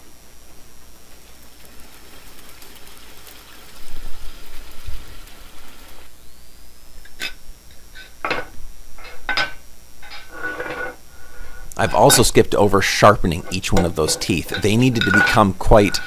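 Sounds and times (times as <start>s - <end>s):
hot steel sizzling in oil: 0.4s - 6.4s, 7.0s - 16.0s.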